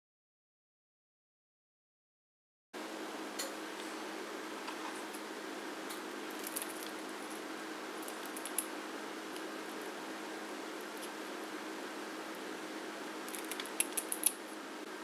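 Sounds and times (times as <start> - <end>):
steady low hum: 2.8 - 15.0.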